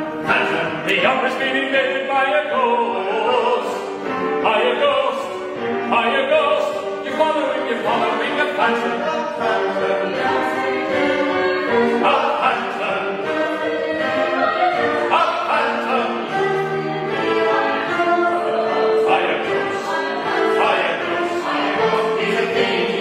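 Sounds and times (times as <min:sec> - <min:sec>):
cello: 0:00.0 - 0:23.0
keyboard: 0:00.0 - 0:23.0
voices singing in harmony: 0:00.0 - 0:23.0.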